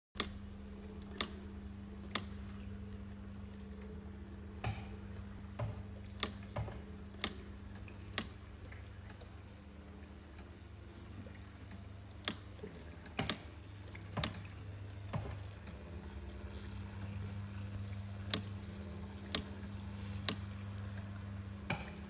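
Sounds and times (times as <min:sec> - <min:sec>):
low mechanical hum: 0:00.2 - 0:22.0.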